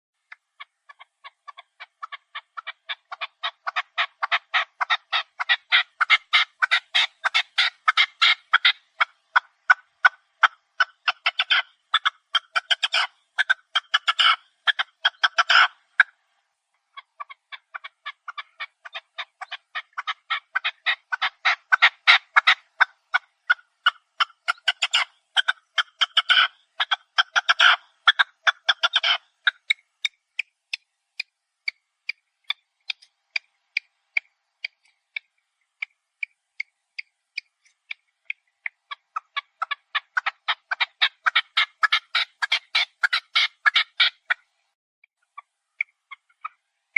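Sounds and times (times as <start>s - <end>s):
partridge calling: 0.2s - 16.2s, 16.8s - 44.5s, 45.2s - 46.8s.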